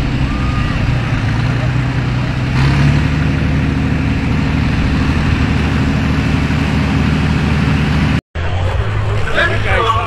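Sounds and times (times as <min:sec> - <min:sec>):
tractor engine running: 0:00.0 - 0:08.2.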